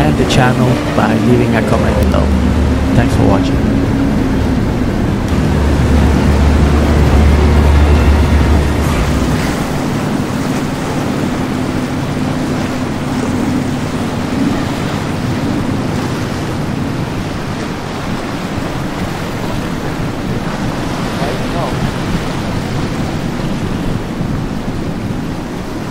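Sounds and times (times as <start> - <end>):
low boat engine drone: 0.0 - 25.9
rushing water: 0.0 - 25.9
wind on microphone: 0.0 - 25.9.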